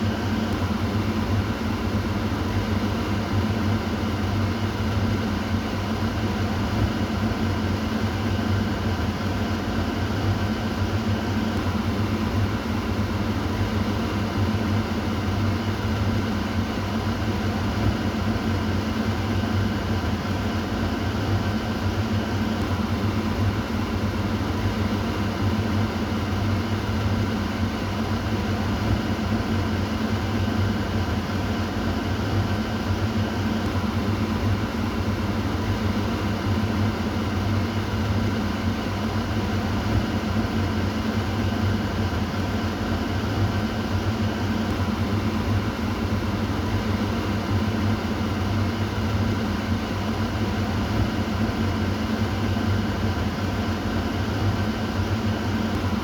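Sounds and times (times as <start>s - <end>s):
kitchen exhaust fan running: 0.0s - 56.0s.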